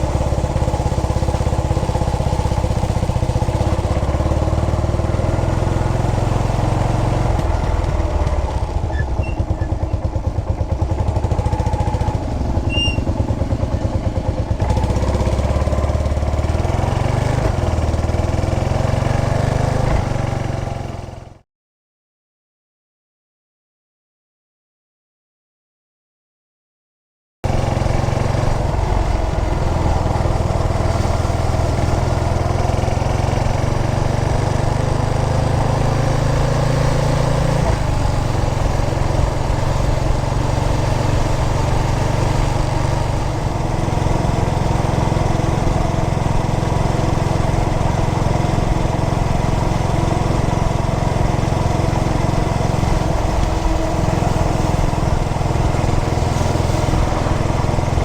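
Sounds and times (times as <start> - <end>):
single-cylinder engine running: 0.0 - 21.4, 27.5 - 58.0.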